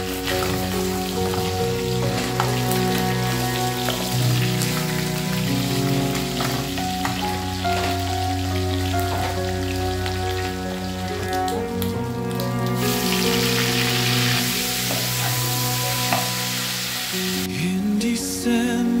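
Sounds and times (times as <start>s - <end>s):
beef sizzling in pot: 0.0s - 11.5s, 12.6s - 17.5s
instrumental background music: 0.0s - 19.0s.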